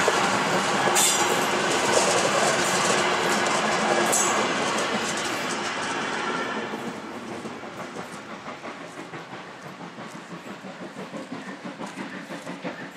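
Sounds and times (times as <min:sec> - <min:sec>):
train wheels and rail clatter: 0:00.0 - 0:12.9.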